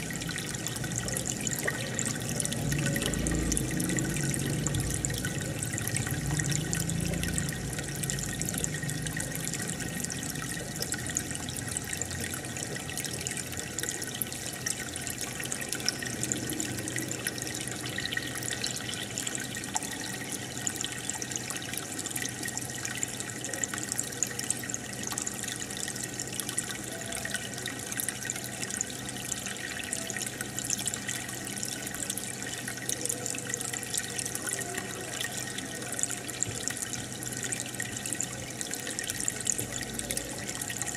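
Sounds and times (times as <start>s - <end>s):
aquarium water bubbling: 0.0s - 40.9s.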